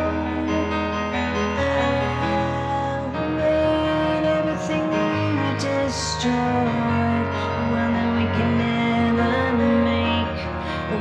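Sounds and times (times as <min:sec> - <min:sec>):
keyboard piano chords: 0:00.0 - 0:11.0.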